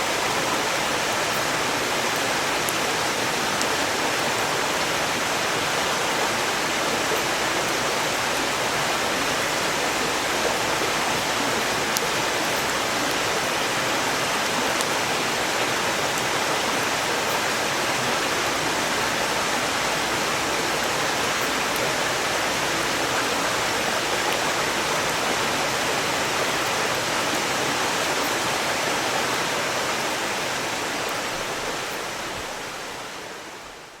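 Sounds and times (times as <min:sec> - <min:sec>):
stream rushing: 0:00.0 - 0:34.0.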